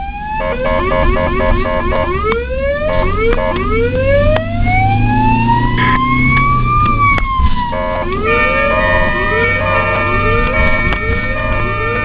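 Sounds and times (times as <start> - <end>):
ambulance siren wailing: 0.0 - 12.0
vehicle engine hum: 0.0 - 12.0.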